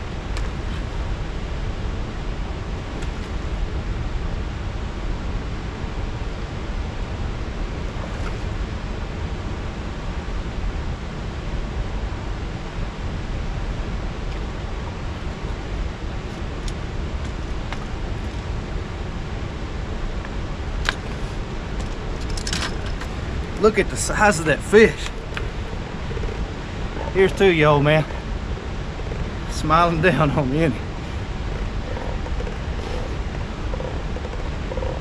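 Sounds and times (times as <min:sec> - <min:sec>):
water noise: 0:00.0 - 0:35.0
wind noise on microphone: 0:00.0 - 0:35.0.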